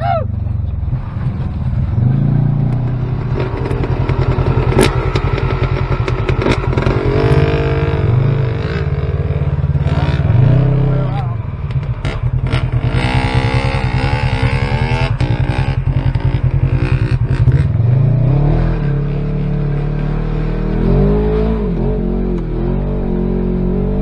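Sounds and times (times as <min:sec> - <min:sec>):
dirt bike engine revving: 0:01.0 - 0:24.0.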